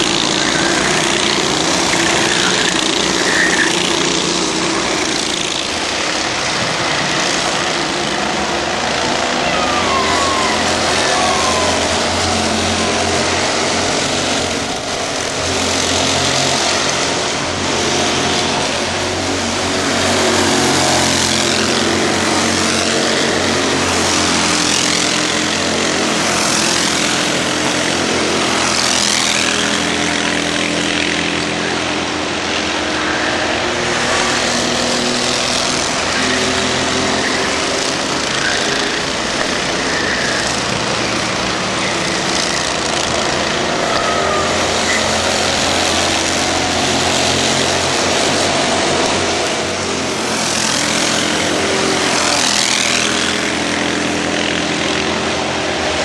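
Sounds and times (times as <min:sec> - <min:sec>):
kart engines racing: 0:00.0 - 0:56.0.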